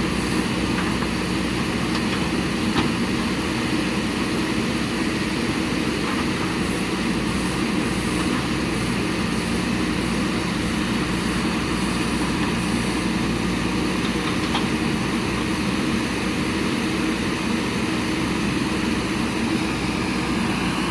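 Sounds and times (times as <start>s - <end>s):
diesel engine running steadily: 0.0s - 20.9s.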